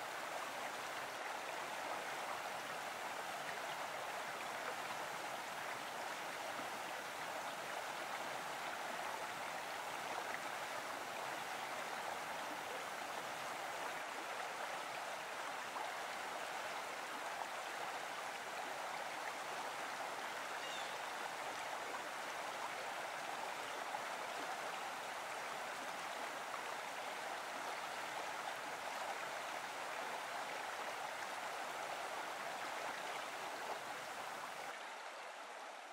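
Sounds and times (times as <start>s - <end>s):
stream running over rocks: 0.0s - 35.9s.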